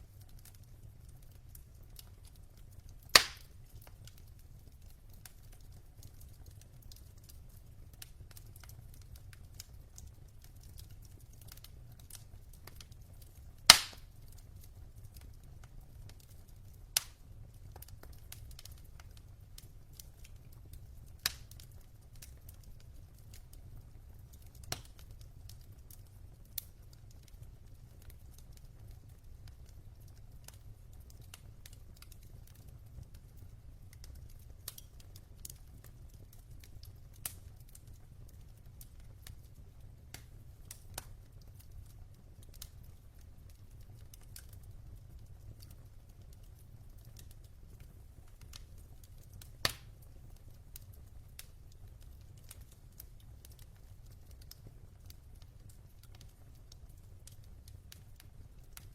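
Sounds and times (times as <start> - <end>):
fire crackling and popping: 0.0 - 58.9.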